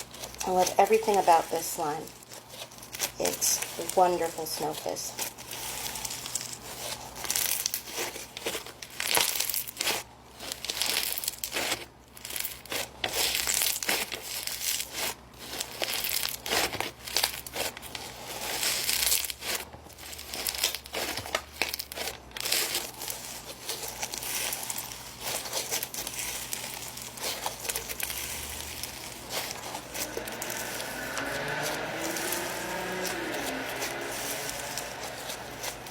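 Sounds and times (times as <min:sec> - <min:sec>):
slime squeezed crackling fizz: 0:02.2 - 0:35.9.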